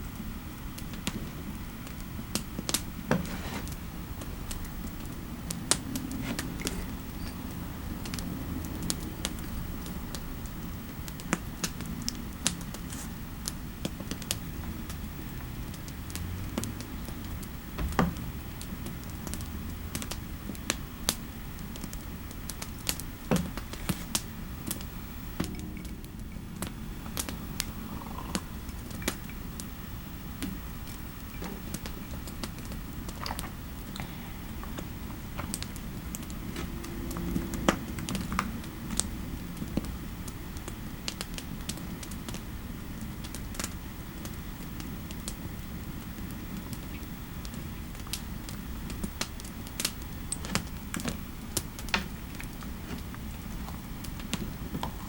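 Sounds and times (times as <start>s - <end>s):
fireplace ambience: 0.0s - 55.0s.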